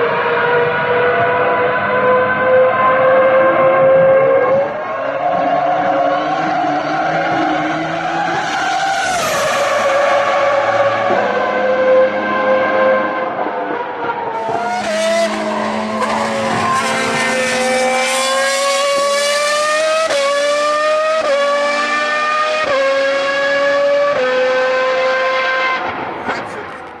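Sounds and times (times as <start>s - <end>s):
racing car engine accelerating: 0.0s - 26.5s.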